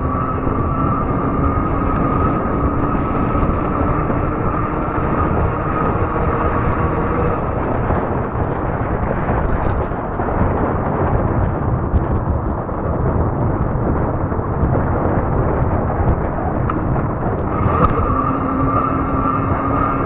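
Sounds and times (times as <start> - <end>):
high whine from bike: 0.0 - 20.0
wind buffeting microphone: 0.0 - 20.0.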